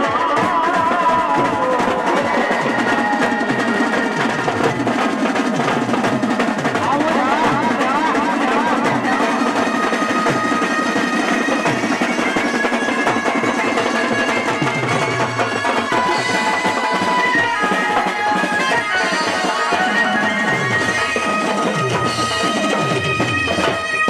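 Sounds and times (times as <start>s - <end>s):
music with steady drumming: 0.0s - 24.0s.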